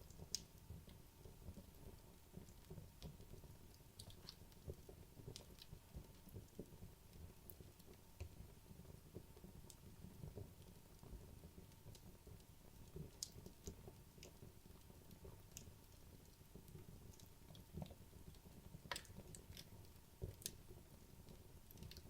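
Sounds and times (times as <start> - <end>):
fire crackling with pops: 0.0 - 22.0.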